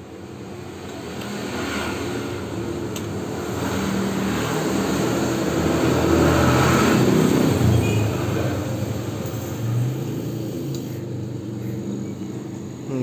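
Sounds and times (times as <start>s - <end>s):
refrigerator compressor humming: 0.0s - 13.0s.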